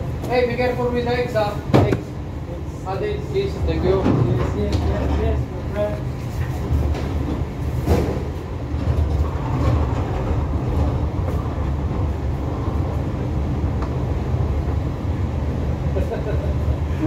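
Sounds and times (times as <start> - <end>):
low rumble of ship machinery: 0.0 - 17.0.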